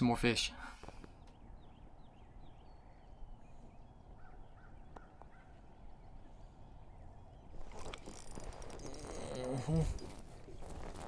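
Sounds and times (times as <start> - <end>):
faint bird calls: 0.6 - 11.0.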